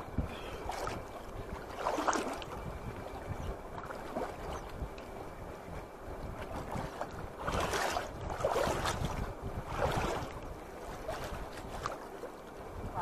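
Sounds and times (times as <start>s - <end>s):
water sloshing around person wading: 0.0s - 13.0s
wind rumble on microphone: 0.0s - 13.0s.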